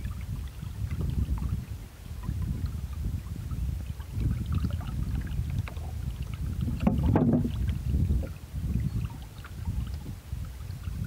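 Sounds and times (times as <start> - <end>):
water lapping against a boat: 0.0 - 11.0
wind rumble on microphone: 0.0 - 11.0.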